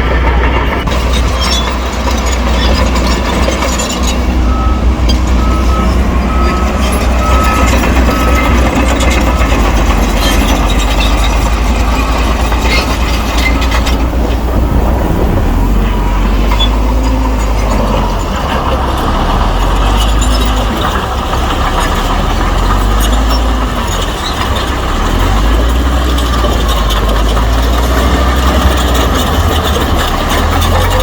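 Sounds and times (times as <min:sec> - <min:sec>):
bulldozer diesel engine running: 0:00.0 - 0:31.0
steel tracks clanking: 0:00.0 - 0:31.0.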